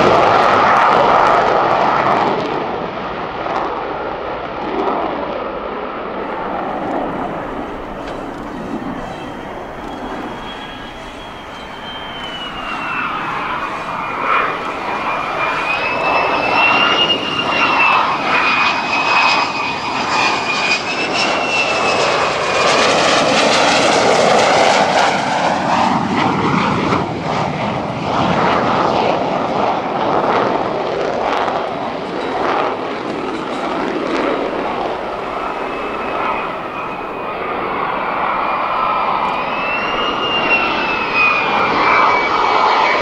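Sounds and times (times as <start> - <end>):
high jet engine whine: 0.0 - 43.0
rushing jet noise: 6.1 - 43.0.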